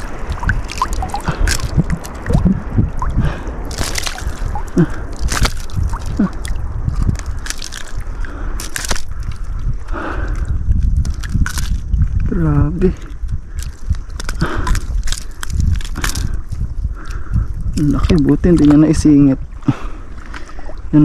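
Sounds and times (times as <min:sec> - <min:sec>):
water sloshing and gurgling: 0:00.0 - 0:21.0
wind rumble on microphone: 0:00.0 - 0:21.0.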